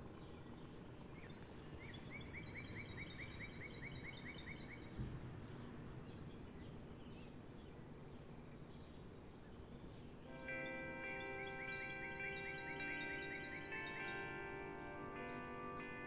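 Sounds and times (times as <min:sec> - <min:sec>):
outdoor background noise: 0:00.0 - 0:16.0
songbird singing repeated notes: 0:00.0 - 0:16.0.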